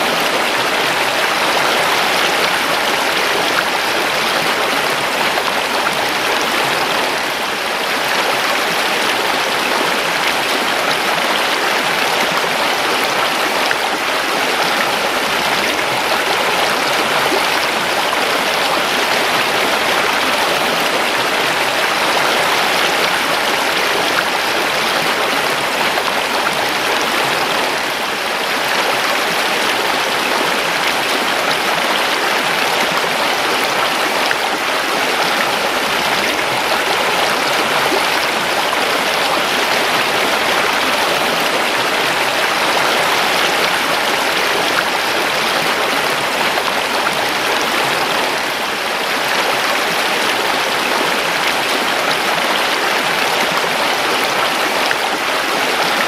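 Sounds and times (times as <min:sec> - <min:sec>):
creek water rushing over stones: 0:00.0 - 0:56.0.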